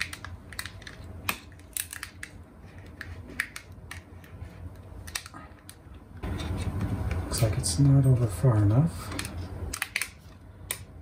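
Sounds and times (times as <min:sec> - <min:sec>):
small laptop parts clicking: 0:00.0 - 0:07.2, 0:09.1 - 0:11.0.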